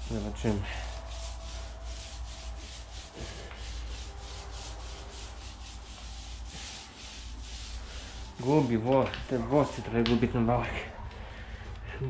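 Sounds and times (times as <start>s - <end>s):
paint roller swishing on floor: 0.0s - 11.2s.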